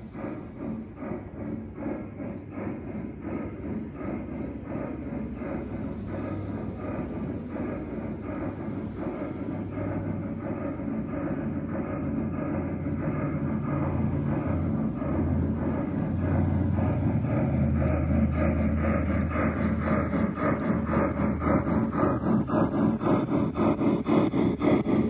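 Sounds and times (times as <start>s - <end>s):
low hum: 0.0s - 25.0s
model steam locomotive chuffing: 0.0s - 25.0s.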